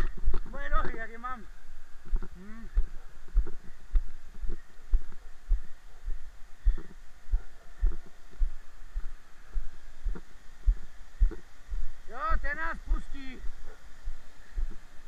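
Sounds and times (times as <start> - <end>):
footsteps on grass and earth: 0.0 - 15.0.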